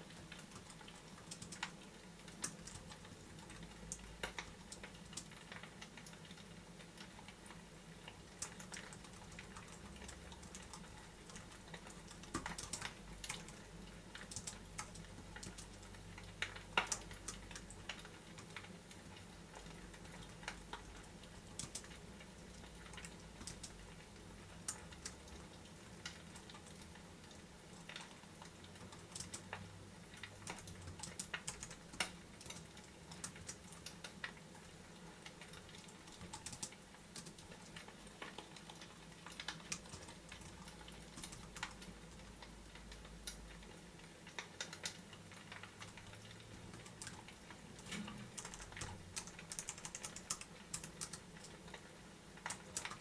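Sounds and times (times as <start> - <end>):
faint sharp clicks and taps: 8.1 - 26.9, 27.7 - 53.0.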